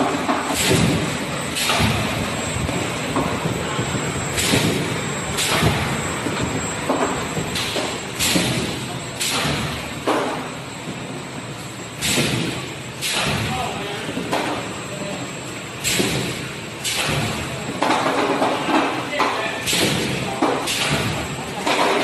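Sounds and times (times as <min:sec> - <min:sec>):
sharp mechanical knocks: 0:00.0 - 0:03.5, 0:04.2 - 0:10.4, 0:12.0 - 0:13.7, 0:15.8 - 0:22.0
machine and conveyor running: 0:00.0 - 0:22.0.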